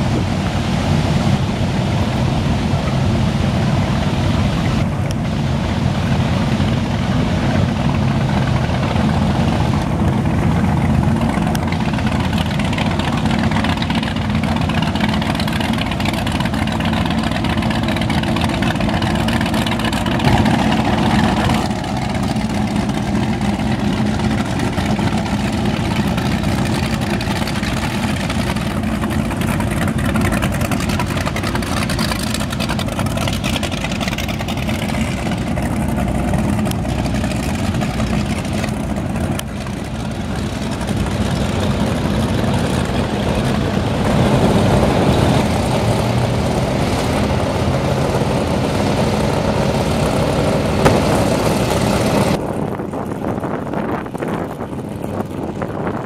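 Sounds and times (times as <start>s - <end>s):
speedboat engines droning: 0.0s - 56.0s
water rushing against hull: 0.0s - 56.0s.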